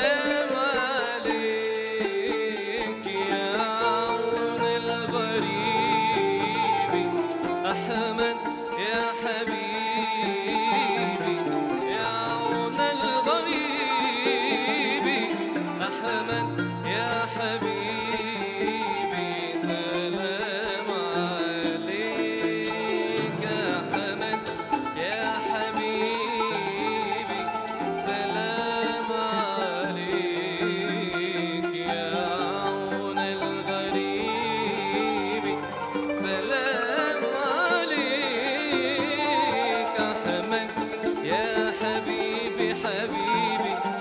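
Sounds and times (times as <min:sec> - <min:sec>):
plucked lute and zither: 0:00.0 - 0:44.0
flute vibrato melody: 0:02.6 - 0:44.0.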